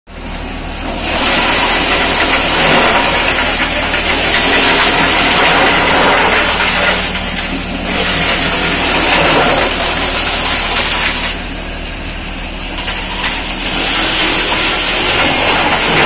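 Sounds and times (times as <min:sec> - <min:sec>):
low motor hum: 0:00.1 - 0:16.0.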